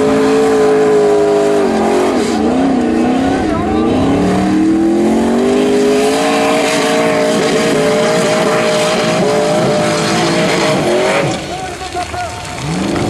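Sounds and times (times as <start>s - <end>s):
buggy engine revving: 0.0s - 13.0s
gravel spraying: 1.2s - 13.0s.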